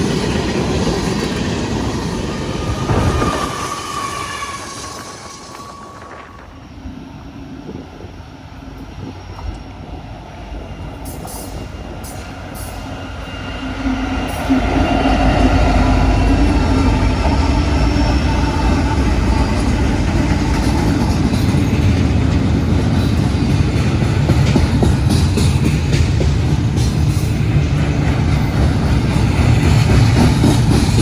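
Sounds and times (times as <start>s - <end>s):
freight train passing: 0.0s - 31.0s
train cars rumbling and rattling: 0.0s - 31.0s.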